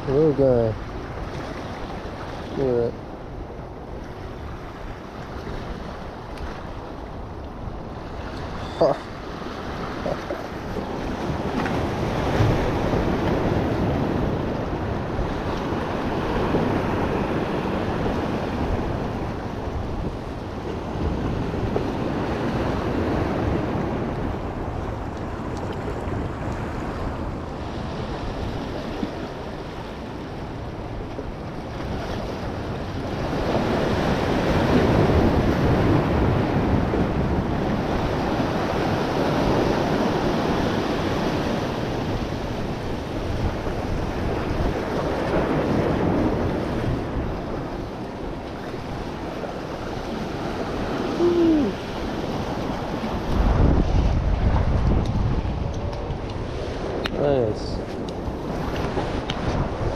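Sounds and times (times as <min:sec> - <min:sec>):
low wind rumble: 0:00.0 - 0:59.9
ocean waves breaking on boulders: 0:00.0 - 0:59.9
wind buffeting microphone: 0:00.0 - 0:59.9.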